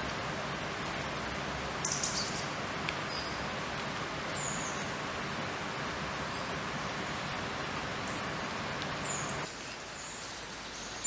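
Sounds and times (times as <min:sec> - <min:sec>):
steady rushing background hiss: 0:00.0 - 0:11.0.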